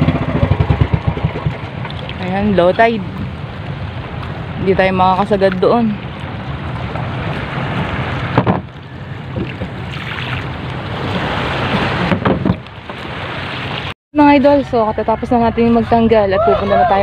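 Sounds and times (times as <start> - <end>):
water rushing: 0.0 - 14.0
boat engine running: 0.0 - 17.0
wind on microphone: 0.0 - 17.0.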